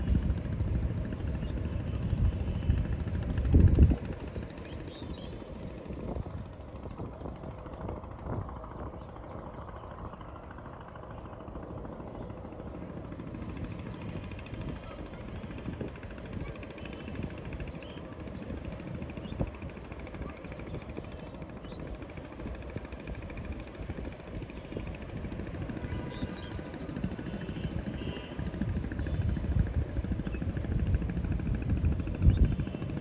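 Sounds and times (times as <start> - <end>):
low background rumble: 0.0 - 33.0.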